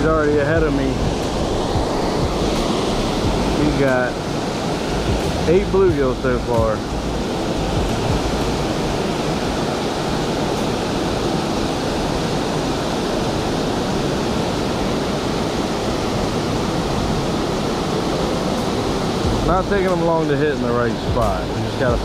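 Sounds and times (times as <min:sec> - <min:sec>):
water rushing over spillway: 0:00.0 - 0:22.0.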